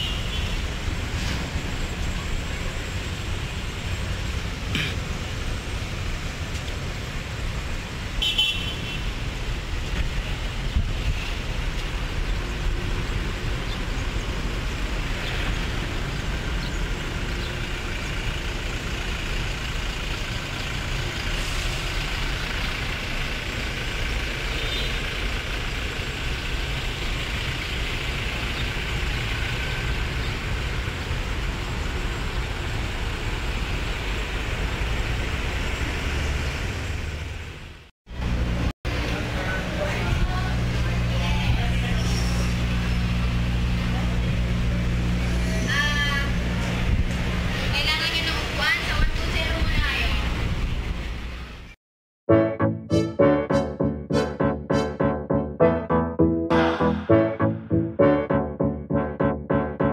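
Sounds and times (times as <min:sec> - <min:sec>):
traffic rumble: 0:00.0 - 0:51.8.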